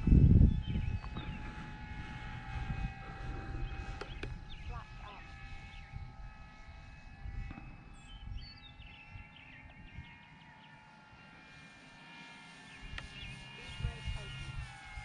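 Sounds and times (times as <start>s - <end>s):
wind on microphone: 0.0s - 10.3s, 12.9s - 15.0s
model plane propeller whine: 0.0s - 15.0s.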